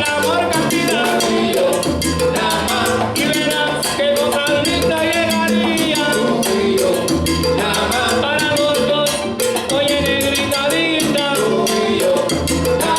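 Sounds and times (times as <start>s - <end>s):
salsa band playing live: 0.0s - 12.9s
steady percussion rhythm: 0.0s - 12.9s.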